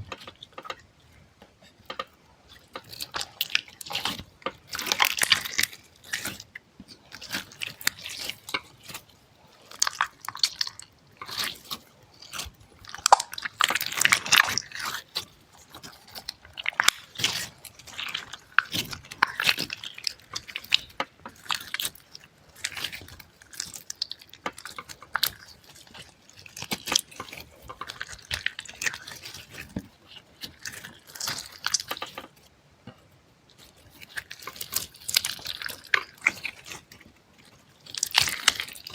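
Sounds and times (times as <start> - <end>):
wet crackles and crunches: 1.9 - 32.5, 33.5 - 38.9.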